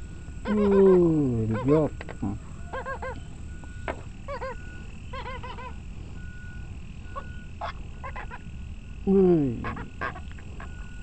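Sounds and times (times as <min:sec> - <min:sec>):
croaking animal calls: 0:00.3 - 0:11.0.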